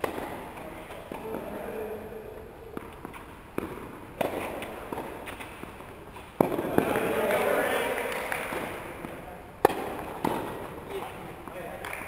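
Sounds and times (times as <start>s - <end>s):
tennis ball struck by rackets: 0.0s - 1.6s, 2.7s - 7.5s, 8.2s - 12.0s
tennis ball bouncing: 0.0s - 1.8s, 2.7s - 12.0s.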